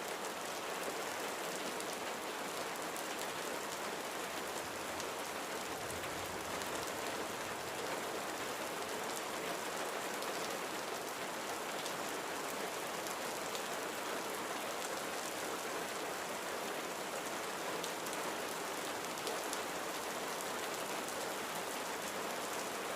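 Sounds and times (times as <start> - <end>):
rain on a window: 0.1 - 22.9.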